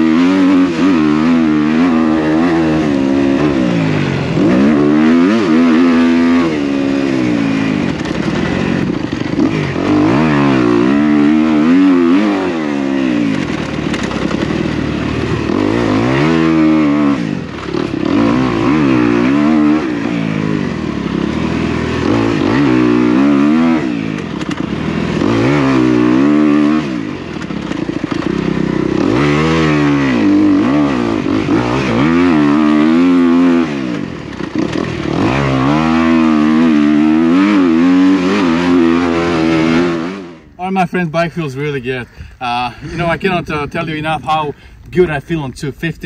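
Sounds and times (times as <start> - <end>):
dirt bike engine revving: 0.0 - 44.7.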